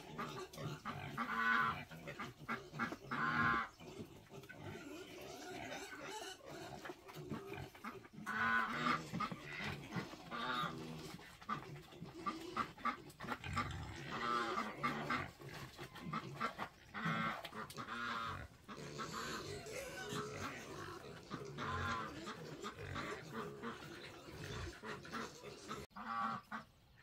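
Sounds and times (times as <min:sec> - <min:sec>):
farm animals crying: 0:00.0 - 0:26.7.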